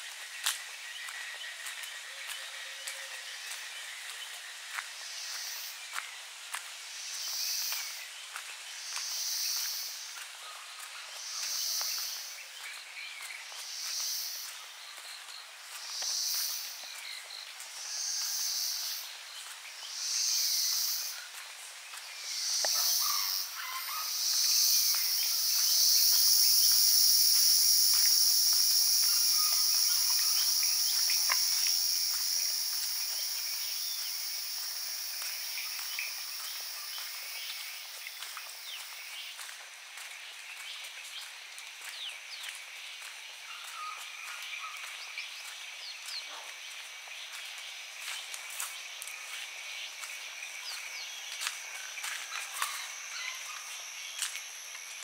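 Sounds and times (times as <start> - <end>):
insects buzzing: 3.3 - 10.3, 11.2 - 12.8, 13.4 - 55.0.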